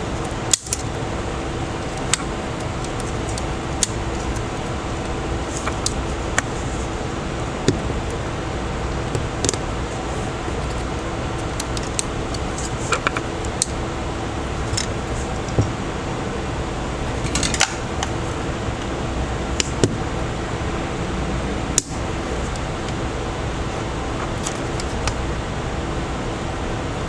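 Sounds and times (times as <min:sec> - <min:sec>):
fan hum: 0:00.0 - 0:27.0.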